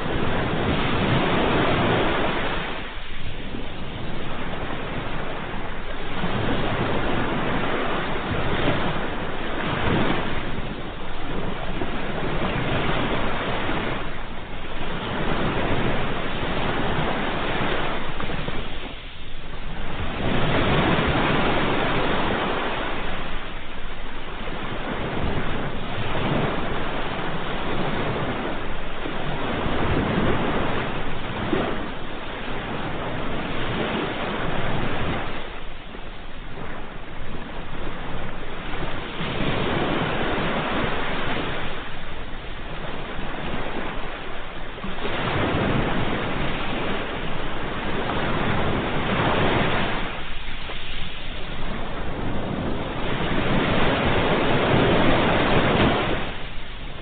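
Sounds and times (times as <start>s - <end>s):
ocean waves washing in: 0.0s - 57.0s.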